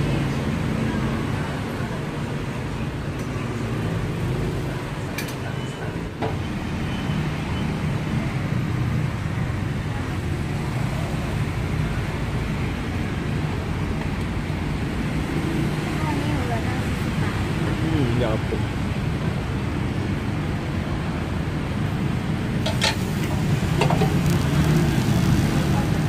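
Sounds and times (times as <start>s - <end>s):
gas burners rumbling and hissing: 0.0s - 26.0s
street traffic: 0.0s - 26.0s.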